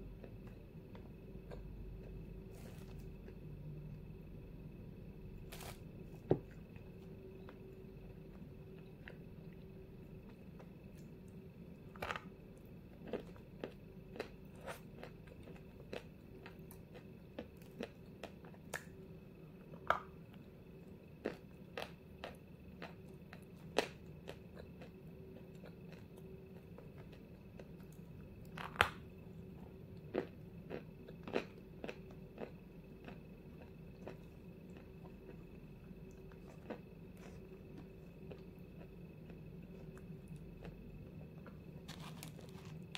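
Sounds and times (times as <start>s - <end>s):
crunching and chewing clay: 0.0s - 4.7s, 5.4s - 42.9s
faint steady hum: 0.0s - 42.9s.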